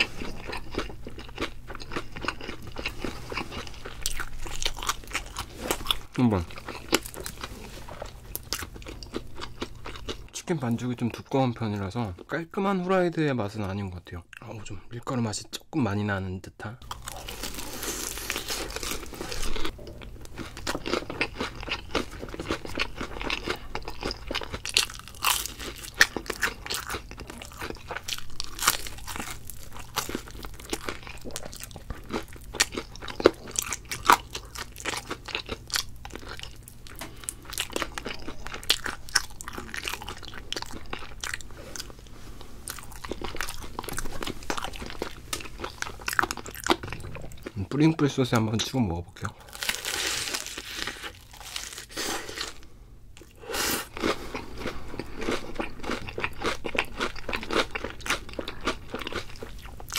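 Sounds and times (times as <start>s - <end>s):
crunching and chewing fried chicken: 0.0s - 11.2s, 16.8s - 59.9s.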